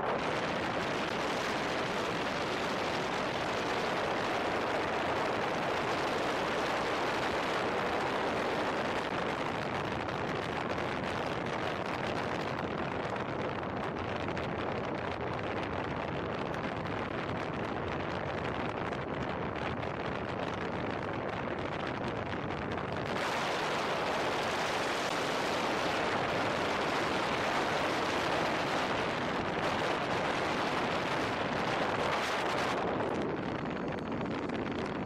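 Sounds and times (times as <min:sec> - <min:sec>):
wind rushing on microphone: 0:00.0 - 0:35.0.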